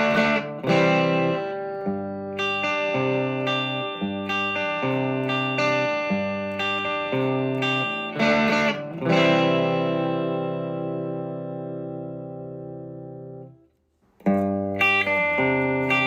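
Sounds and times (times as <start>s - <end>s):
electric guitar chords: 0.0s - 13.6s, 14.2s - 16.0s.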